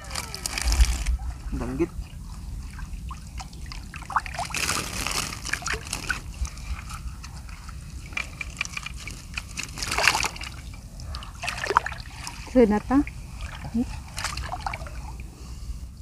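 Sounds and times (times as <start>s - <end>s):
water sloshing and splashing: 0.0s - 15.3s.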